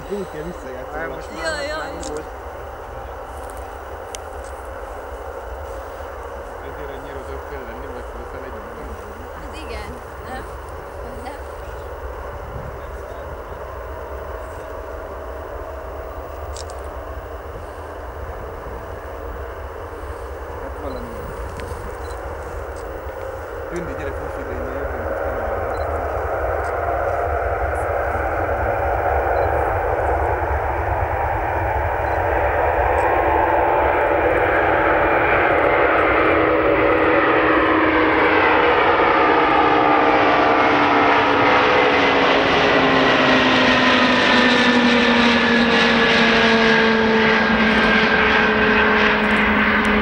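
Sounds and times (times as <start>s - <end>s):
engine whining tones: 0.0s - 50.0s
jet engines deep rumble: 0.0s - 50.0s.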